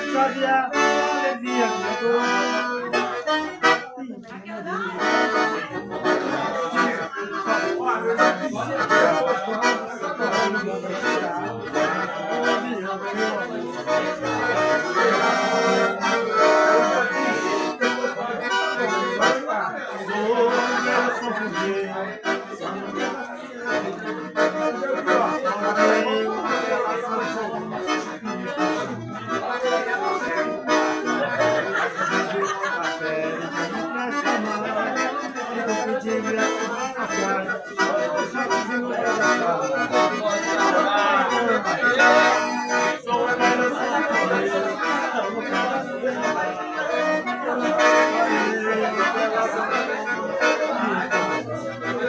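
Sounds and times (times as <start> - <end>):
accordion playing lively melody: 0.0 - 52.0.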